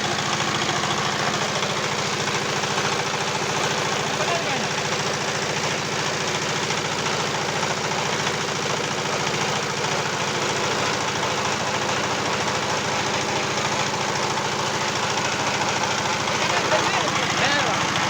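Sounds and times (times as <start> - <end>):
machine engine running: 0.0 - 18.0.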